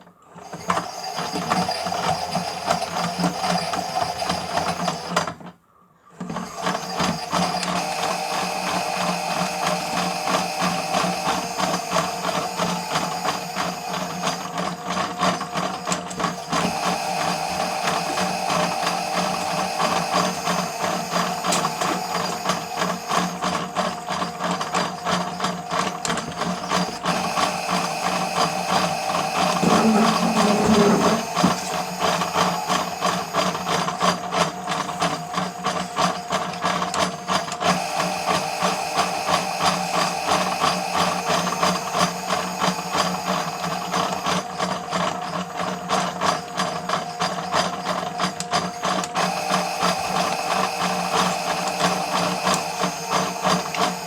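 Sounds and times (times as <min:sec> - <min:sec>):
toy washing machine whirring: 0:00.0 - 0:54.0.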